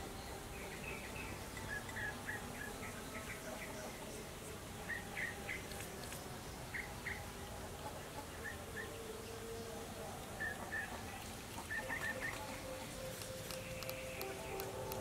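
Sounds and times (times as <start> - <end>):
low background hiss: 0.0 - 15.0
small birds chirping: 0.0 - 15.0.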